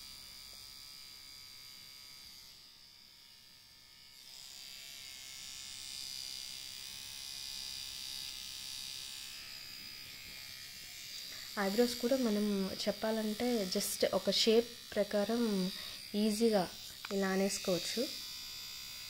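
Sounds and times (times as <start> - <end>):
hair trimmer buzzing: 0.0 - 19.0.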